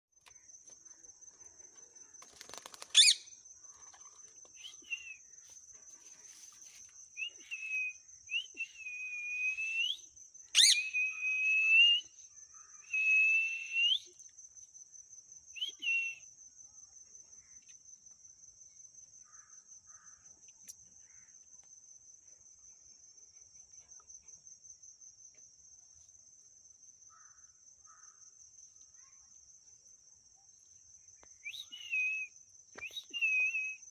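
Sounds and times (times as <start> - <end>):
high-pitched insect trill: 0.2 - 33.9.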